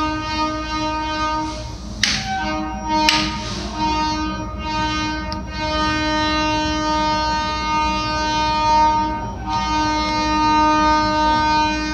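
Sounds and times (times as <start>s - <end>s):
train horn blast: 0.0s - 11.9s.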